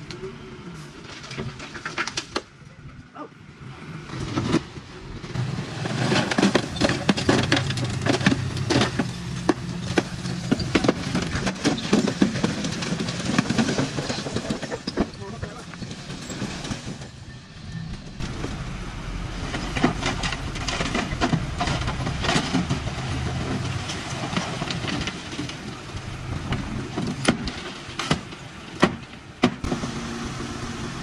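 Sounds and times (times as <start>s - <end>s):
diesel engine humming: 2.5s - 31.0s.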